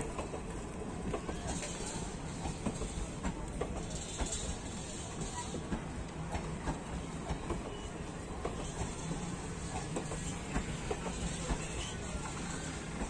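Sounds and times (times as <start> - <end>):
rumble of wheels on rail: 0.0 - 13.0
train wheels clicking over rail joints: 0.0 - 13.0.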